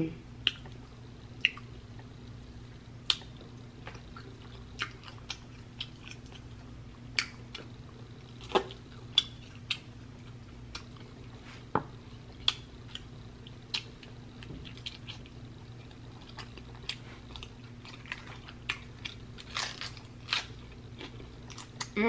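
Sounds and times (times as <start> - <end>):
faint low hum: 0.0 - 22.0
chewing and sucking fingers: 0.4 - 2.4, 3.0 - 11.4, 12.2 - 22.0.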